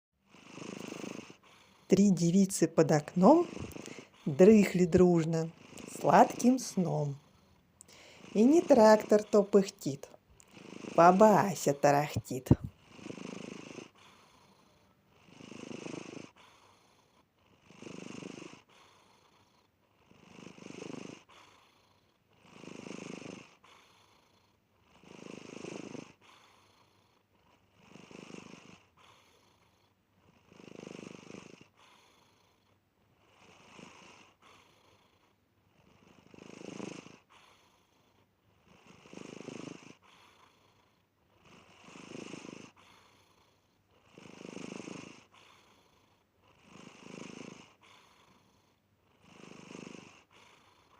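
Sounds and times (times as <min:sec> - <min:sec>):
cat purring: 0:00.3 - 0:50.9.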